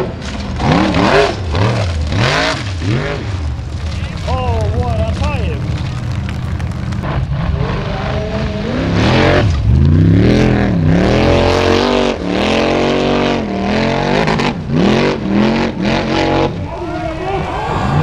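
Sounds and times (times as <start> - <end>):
buggy engine revving hard: 0.0 - 18.0.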